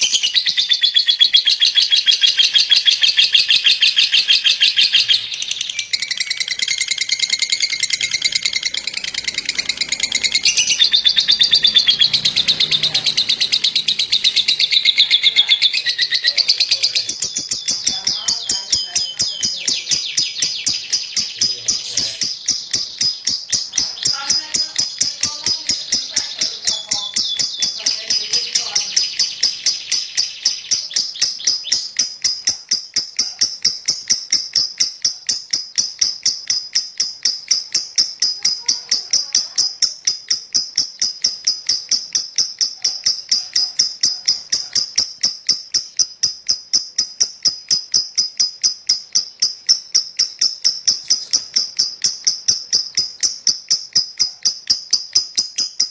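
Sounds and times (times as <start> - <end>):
lovebird chattering: 0.0 - 55.9.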